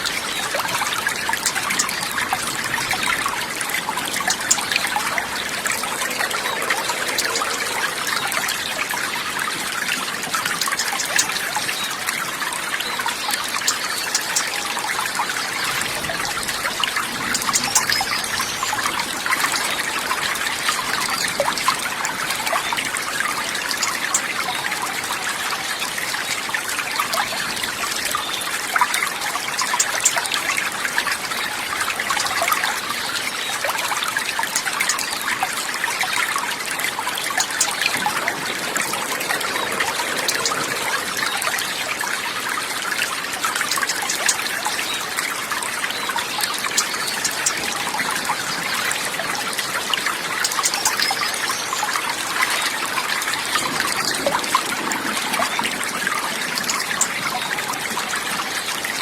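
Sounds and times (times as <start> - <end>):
babbling water trickling: 0.0 - 59.0.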